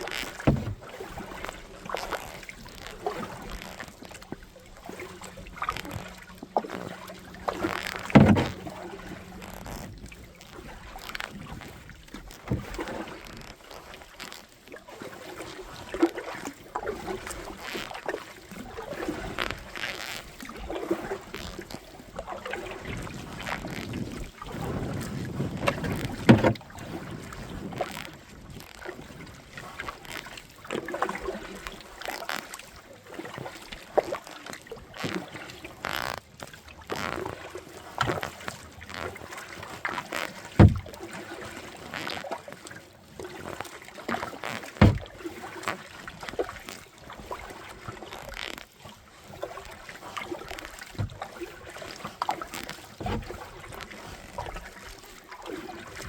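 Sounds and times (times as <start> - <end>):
paddle knocking against kayak: 0.0 - 13.4, 15.3 - 28.3, 29.8 - 48.2, 49.3 - 54.9
paddle splashes: 0.0 - 56.0.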